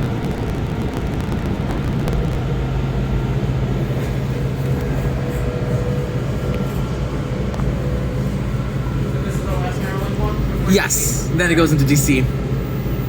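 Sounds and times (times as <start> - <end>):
steady whining tones: 0.0 - 13.0
subway car rumbling: 0.0 - 13.0.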